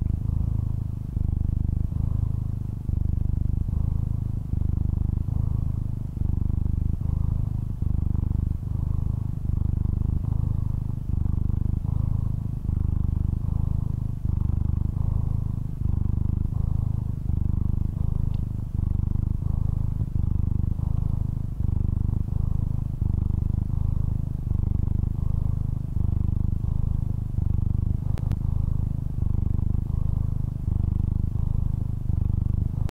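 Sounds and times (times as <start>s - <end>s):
cat purring: 0.0s - 32.9s.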